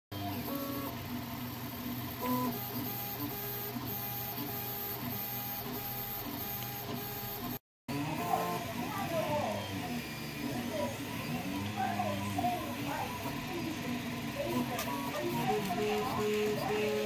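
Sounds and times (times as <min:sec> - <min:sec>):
stepper motors whining: 0:00.2 - 0:17.0.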